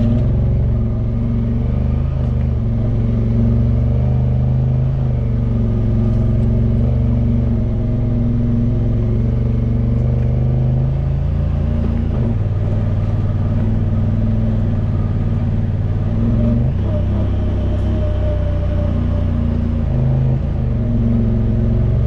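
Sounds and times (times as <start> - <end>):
utility vehicle engine droning: 0.0 - 22.0.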